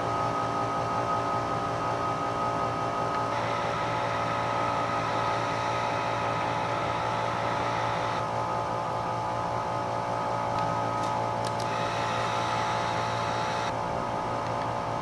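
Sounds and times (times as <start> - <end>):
heat gun fan whining: 0.0 - 15.0.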